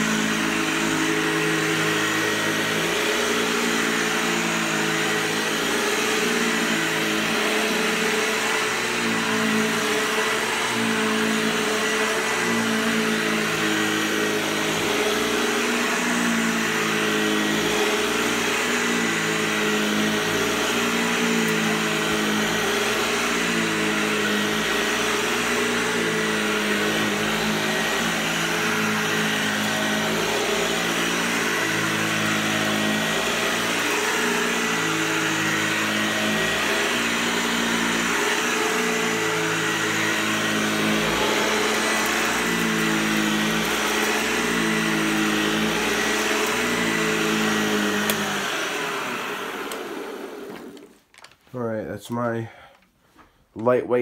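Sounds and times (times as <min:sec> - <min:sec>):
vacuum cleaner running on carpet: 0:00.0 - 0:51.0.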